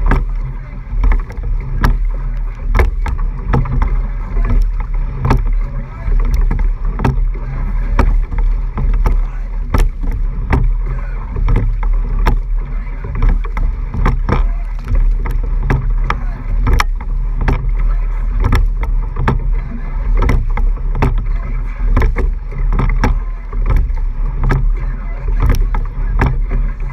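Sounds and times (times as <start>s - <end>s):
oars knocking in oarlocks: 0.0s - 26.9s
water rushing along hull: 0.0s - 26.9s
wind on microphone: 0.0s - 26.9s.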